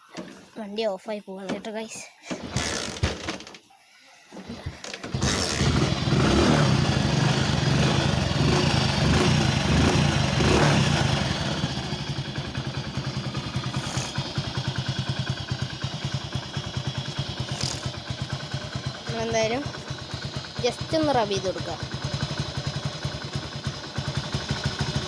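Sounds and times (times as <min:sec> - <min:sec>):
motorcycle engine starting and idling: 0:02.3 - 0:03.7, 0:04.3 - 0:25.0.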